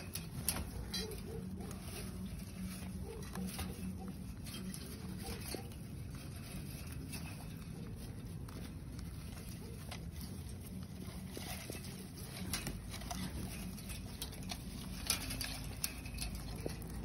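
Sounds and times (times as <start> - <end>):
dry hay rustling: 0.0 - 17.0
steady low hum: 0.0 - 17.0.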